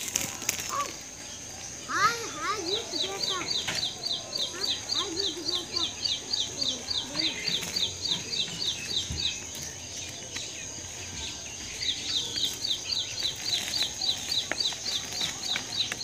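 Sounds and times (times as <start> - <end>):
bird chirping rapidly: 0.7 - 16.0.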